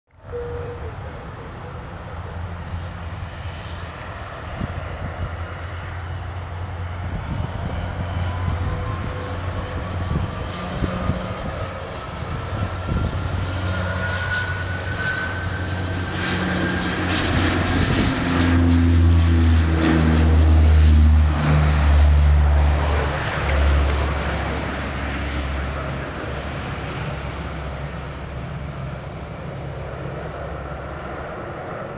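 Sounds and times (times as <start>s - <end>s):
turboprop aircraft taking off: 0.1s - 31.9s.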